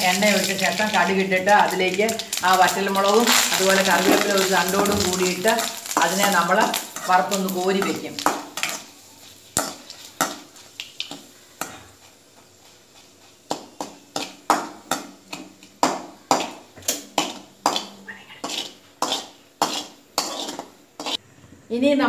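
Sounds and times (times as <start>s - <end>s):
chillies frying in oil: 0.0s - 21.2s.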